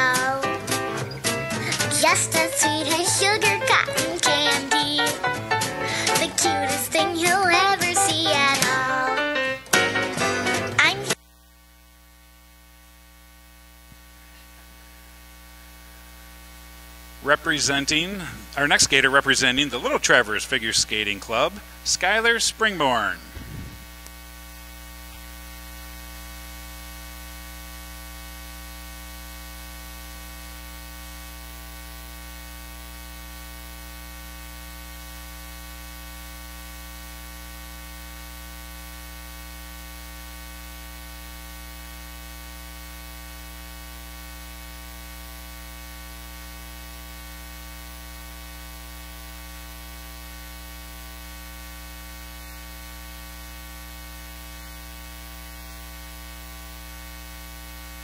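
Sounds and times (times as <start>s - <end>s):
buzzy mains hum: 0.0s - 58.0s.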